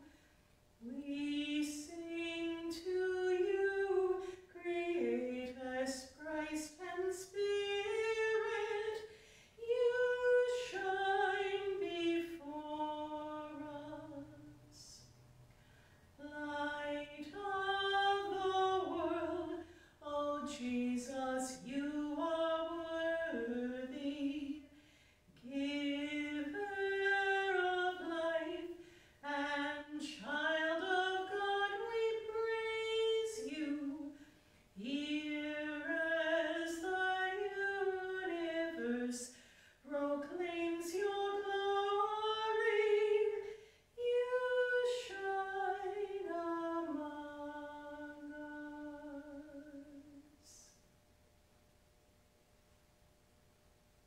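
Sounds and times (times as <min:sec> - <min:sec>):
woman singing unaccompanied: 0:00.8 - 0:15.1, 0:16.2 - 0:24.7, 0:25.4 - 0:50.8.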